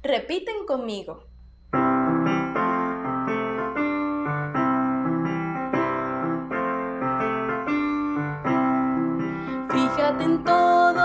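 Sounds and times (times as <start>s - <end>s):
electric piano chords: 1.7s - 11.0s.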